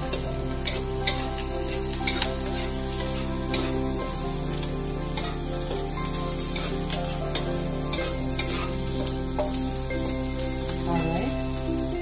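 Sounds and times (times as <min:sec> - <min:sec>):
wooden spatula scraping a pan: 0:00.0 - 0:11.2
onions sizzling in a wok: 0:00.0 - 0:12.0.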